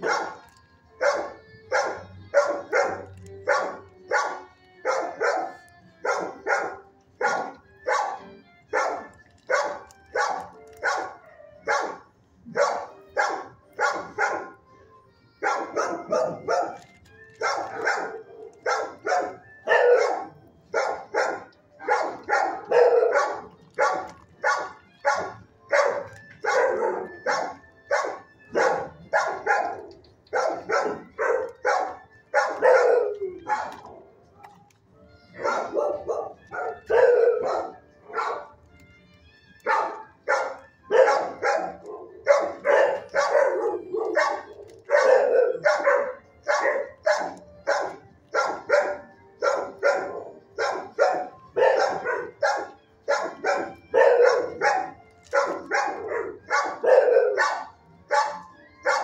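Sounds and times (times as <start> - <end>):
dogs barking: 0.0 - 14.8, 15.4 - 38.8, 39.6 - 59.0.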